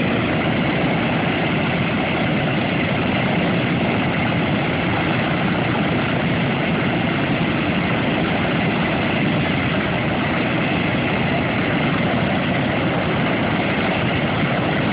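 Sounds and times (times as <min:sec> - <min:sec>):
piston aircraft engines droning: 0:00.0 - 0:14.9.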